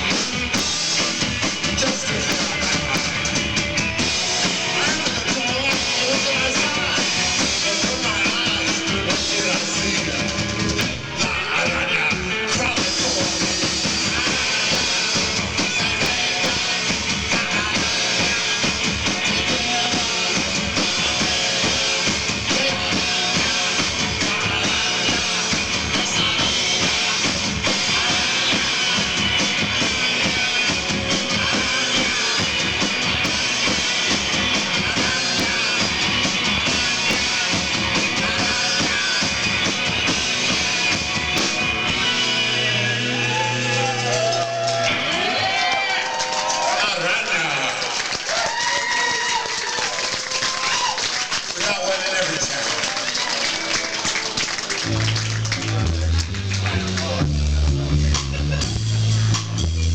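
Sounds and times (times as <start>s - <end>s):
drum kit steady beat: 0.0s - 46.8s, 51.6s - 59.9s
rock band playing: 0.0s - 59.9s.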